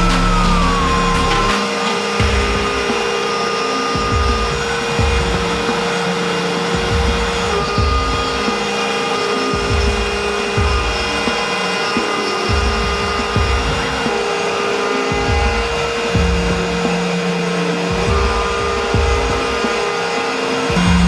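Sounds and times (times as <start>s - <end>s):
background music: 0.0s - 21.0s
router spindle whining: 0.0s - 21.0s.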